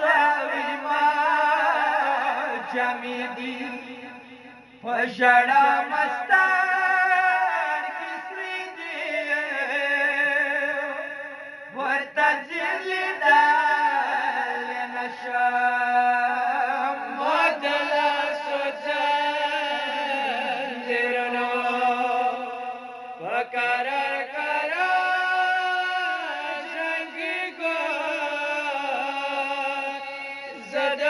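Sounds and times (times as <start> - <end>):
men singing a mourning lament: 0.0 - 31.0.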